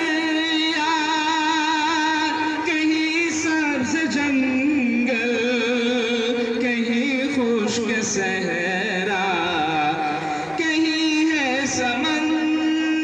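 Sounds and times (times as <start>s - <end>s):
man singing long held notes: 0.0s - 13.0s.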